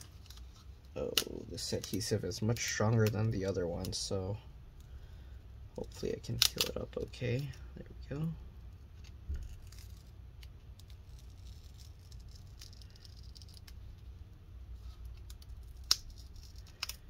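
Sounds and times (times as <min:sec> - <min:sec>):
faint rustling of cable and tape: 0:00.0 - 0:17.0.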